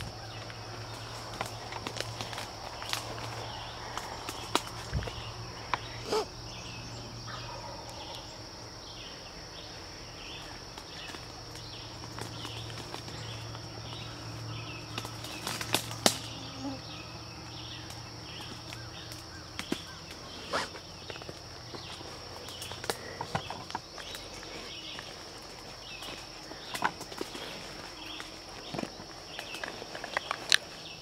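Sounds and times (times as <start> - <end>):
insects chirring: 0.0 - 31.0
twigs crackling underfoot: 0.0 - 31.0.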